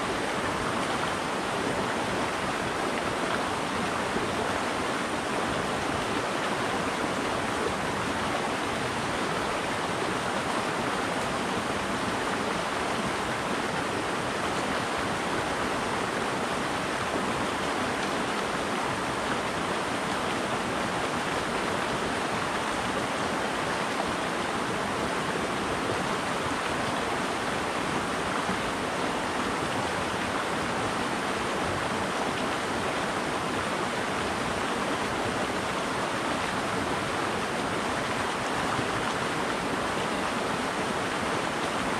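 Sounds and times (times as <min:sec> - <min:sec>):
creek water rushing over rocks: 0:00.0 - 0:41.9.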